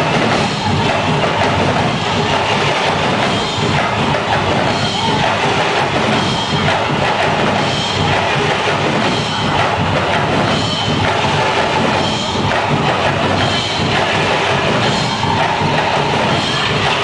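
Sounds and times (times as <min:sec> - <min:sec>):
percussion band drumming: 0:00.0 - 0:17.0.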